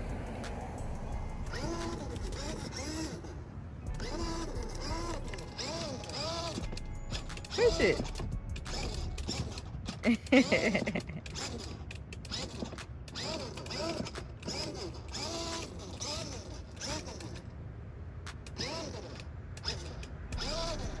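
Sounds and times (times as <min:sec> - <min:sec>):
electric motors whining: 0:00.0 - 0:17.5, 0:18.4 - 0:21.0.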